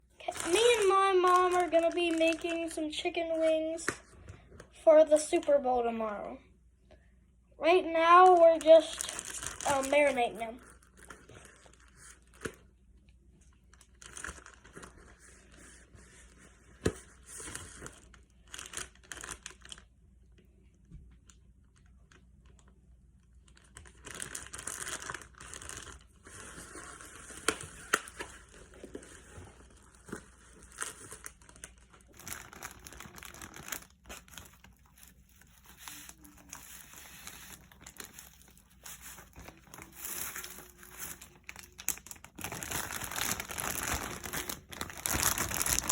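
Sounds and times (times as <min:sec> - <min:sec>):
packaging crinkling and tearing: 0:00.2 - 0:03.9, 0:07.9 - 0:12.7, 0:13.4 - 0:19.9, 0:21.3 - 0:45.9.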